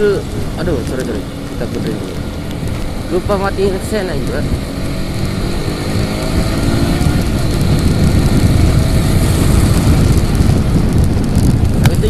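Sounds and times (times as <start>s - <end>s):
motorcycle engine: 0.0s - 12.0s
wind buffeting microphone: 0.0s - 12.0s.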